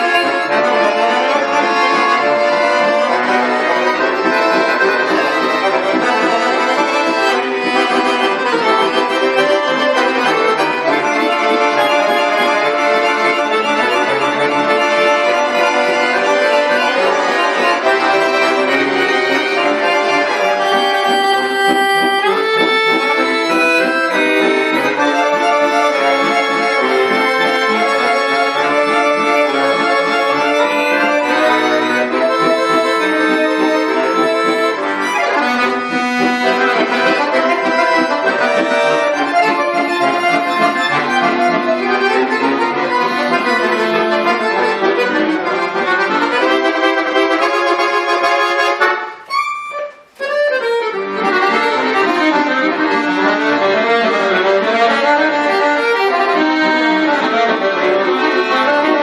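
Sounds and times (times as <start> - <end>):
button accordion playing chords: 0.0 - 59.0.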